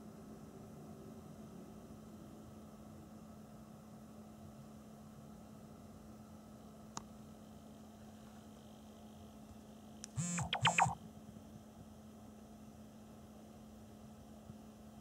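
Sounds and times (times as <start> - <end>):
electrical hum and hiss: 0.0 - 15.0.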